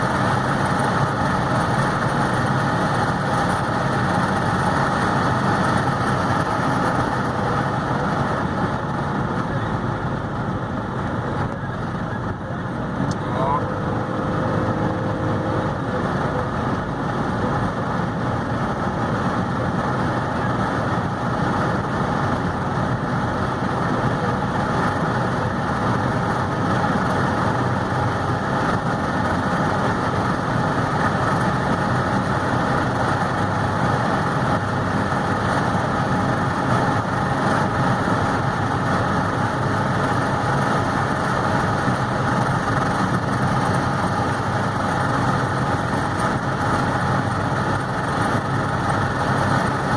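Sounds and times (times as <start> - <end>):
car engine pulling at high speed: 0.0 - 49.9
wind and road noise: 0.0 - 49.9.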